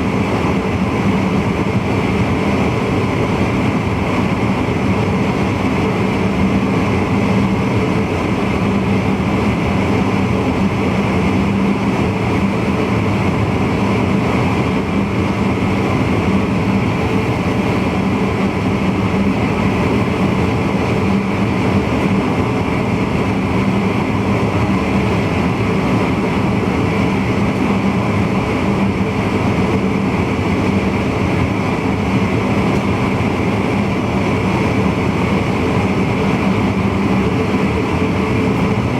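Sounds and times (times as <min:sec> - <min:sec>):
even train hum: 0:00.0 - 0:38.9
wheels rumbling on rail: 0:00.0 - 0:38.9.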